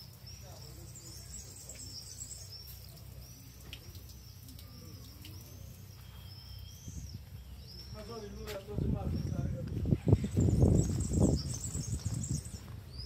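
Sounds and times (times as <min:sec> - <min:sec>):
distant street traffic rumble: 0:00.0 - 0:13.0
small bird chirping: 0:00.0 - 0:13.0.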